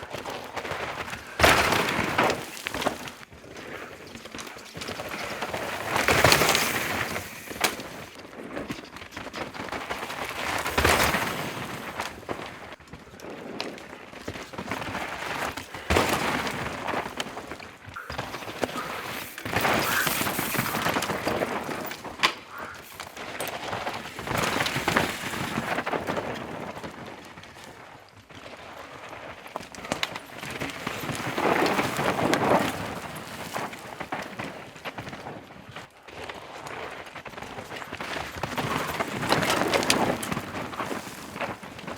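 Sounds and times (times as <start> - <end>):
bike tyres crunching and skidding: 0.0 - 41.9.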